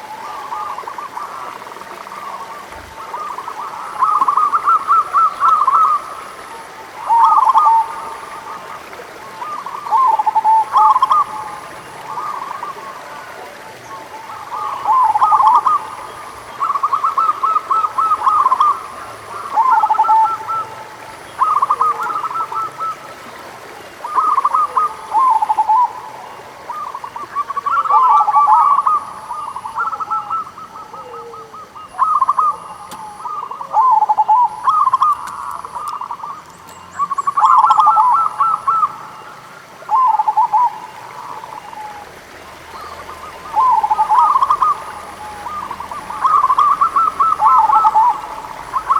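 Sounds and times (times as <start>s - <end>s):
doves cooing: 0.0s - 48.9s.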